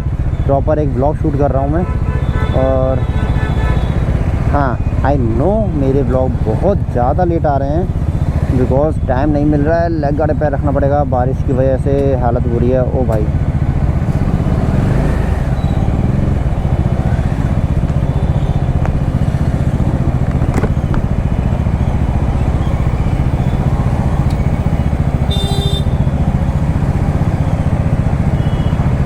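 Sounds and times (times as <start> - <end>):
motorcycle engine running: 1.6 - 29.0.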